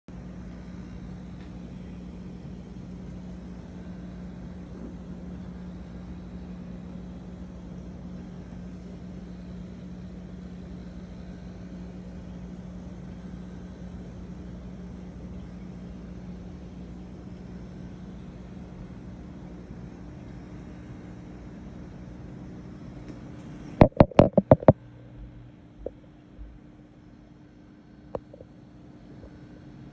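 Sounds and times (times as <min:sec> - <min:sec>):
mechanical hum: 0:00.1 - 0:29.9.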